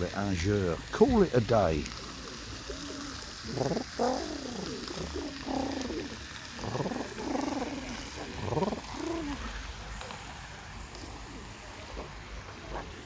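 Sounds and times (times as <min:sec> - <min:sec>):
pigeons cooing: 0:00.0 - 0:10.1, 0:11.0 - 0:13.0.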